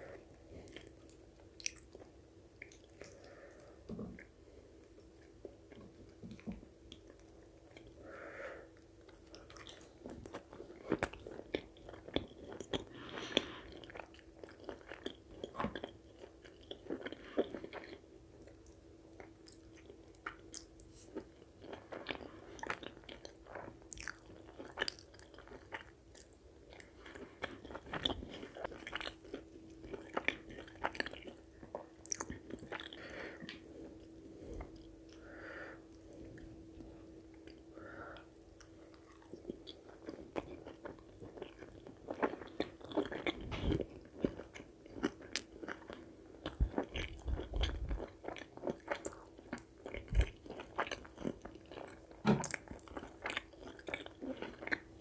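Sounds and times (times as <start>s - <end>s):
faint steady hum: 0.0s - 55.0s
person chewing food: 0.0s - 55.0s.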